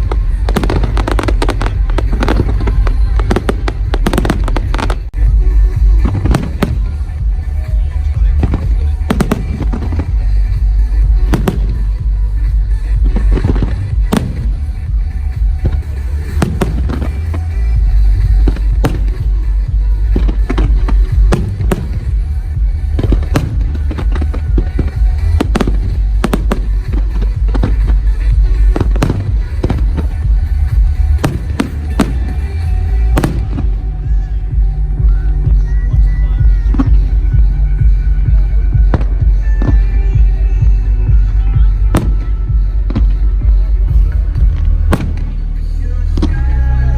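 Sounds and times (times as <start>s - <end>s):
fireworks bursting with sharp bangs: 0.0s - 46.9s
music: 0.0s - 46.9s
steady low rumble: 0.0s - 46.9s.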